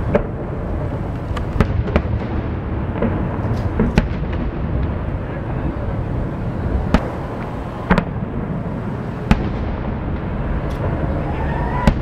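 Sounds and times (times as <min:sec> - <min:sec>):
distant fireworks bangs: 0:00.0 - 0:12.0
low fireworks rumble: 0:00.0 - 0:12.0.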